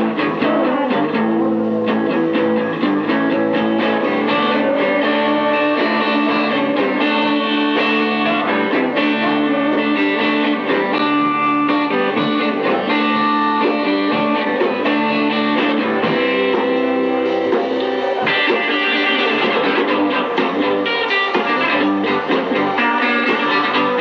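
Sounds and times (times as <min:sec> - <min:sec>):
guitar: 0:00.0 - 0:24.0
small band playing live: 0:00.0 - 0:24.0.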